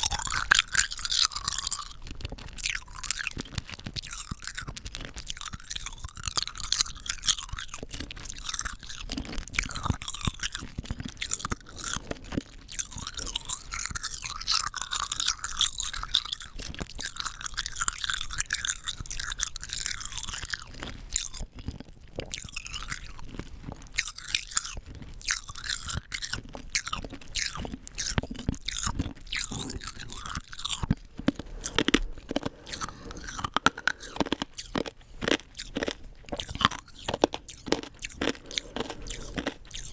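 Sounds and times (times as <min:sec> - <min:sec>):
hard candy crunching: 0:00.0 - 0:39.9.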